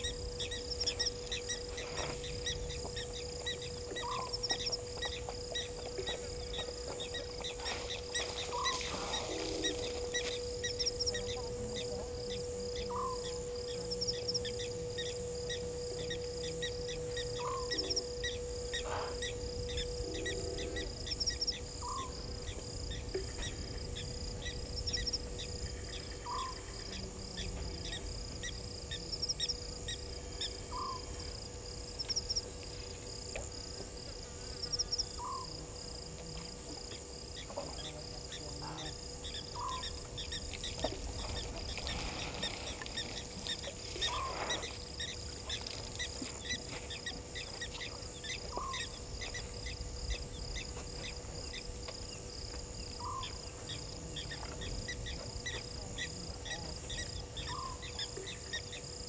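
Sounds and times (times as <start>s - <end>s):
faint steady hum: 0.0s - 59.0s
insects chirping: 0.0s - 59.0s.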